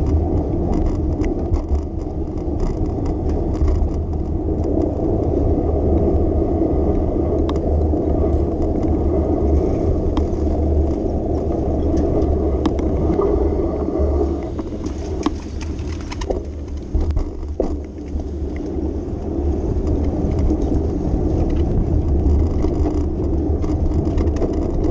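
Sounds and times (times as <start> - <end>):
bicycle clicks and rattles: 0.0 - 24.9
bicycle riding rumble: 0.0 - 24.9.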